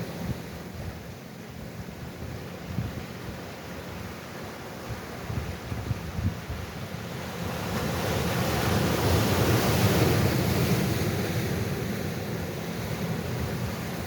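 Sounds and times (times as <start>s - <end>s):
sea waves surging: 0.0s - 14.0s
wind rumbling on microphone: 0.0s - 14.0s.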